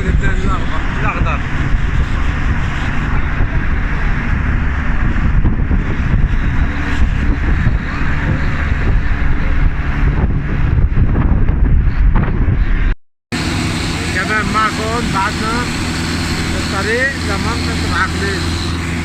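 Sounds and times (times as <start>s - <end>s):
car road noise: 0.0s - 19.0s
wind buffeting microphone: 0.0s - 19.0s.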